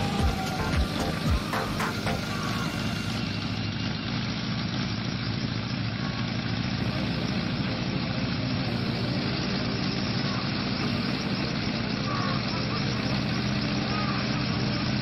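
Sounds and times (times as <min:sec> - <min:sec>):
helicopter engine running: 0:00.0 - 0:15.0
rotor spinning: 0:00.0 - 0:15.0.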